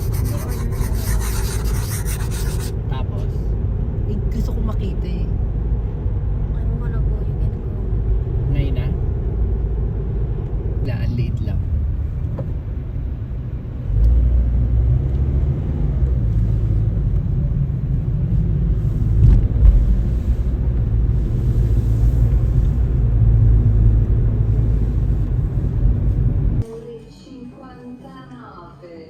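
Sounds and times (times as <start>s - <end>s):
car interior rumble: 2.7s - 26.6s.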